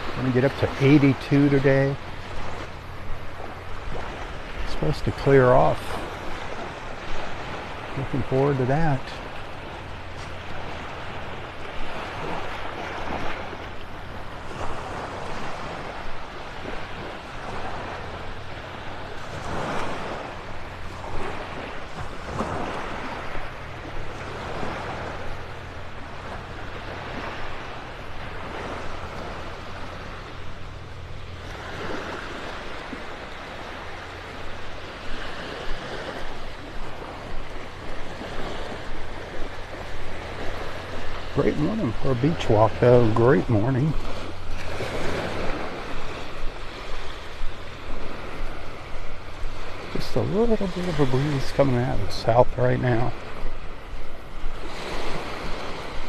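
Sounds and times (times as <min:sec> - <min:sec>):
small surf washing over beach: 0:00.0 - 0:56.0.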